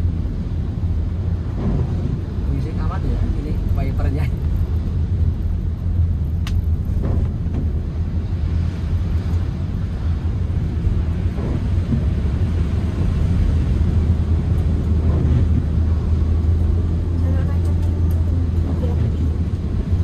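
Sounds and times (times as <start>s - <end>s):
car interior road drone: 0.0s - 20.0s.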